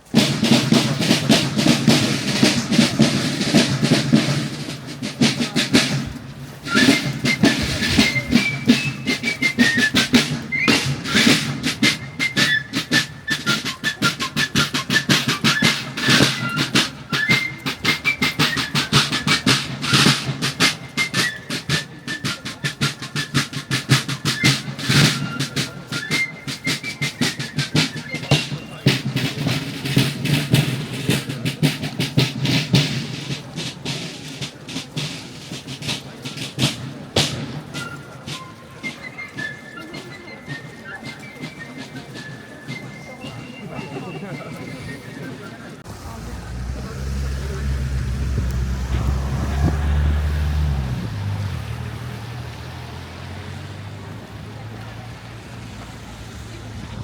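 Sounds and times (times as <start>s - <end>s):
snare drums beating march: 0.0s - 57.0s.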